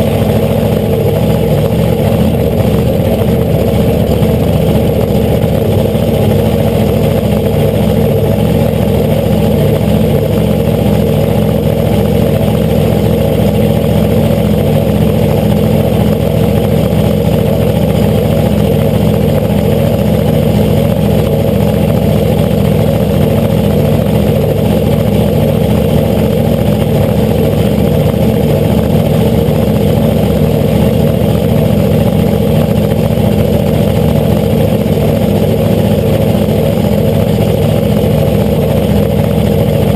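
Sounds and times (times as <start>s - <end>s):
loud engine idling: 0.0s - 39.9s.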